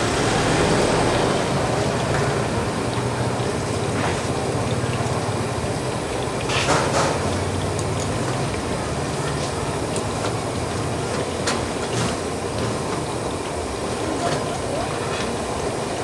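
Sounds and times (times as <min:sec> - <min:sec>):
oil sizzling in a wok: 0:00.0 - 0:16.0.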